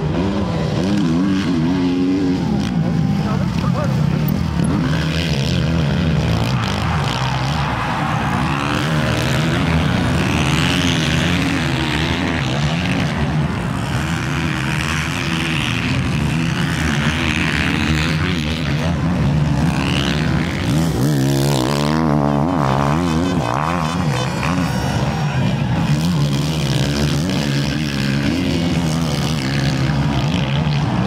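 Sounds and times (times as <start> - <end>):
motocross bikes racing: 0.0 - 31.0.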